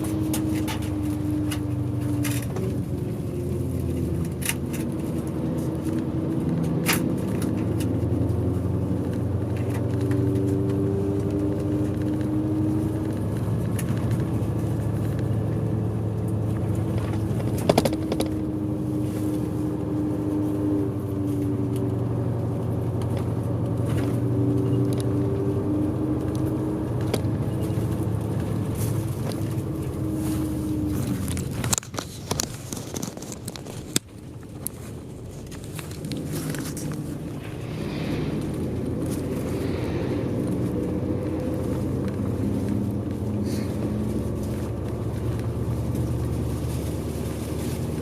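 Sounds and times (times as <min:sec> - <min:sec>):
bus engine and road noise: 0:00.0 - 0:48.0.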